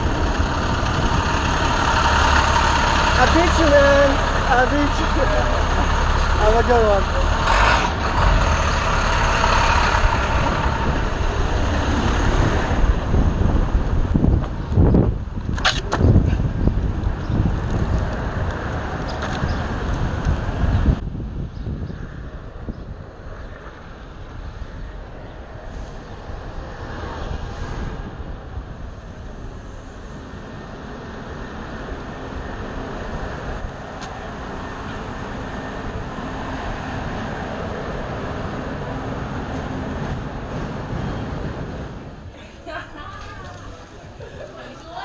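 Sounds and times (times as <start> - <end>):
wind noise: 0.0 - 3.2, 5.6 - 44.4
bus engine rumbling: 0.0 - 45.0
street traffic noise: 0.0 - 45.0
wheels rolling on asphalt: 0.0 - 45.0.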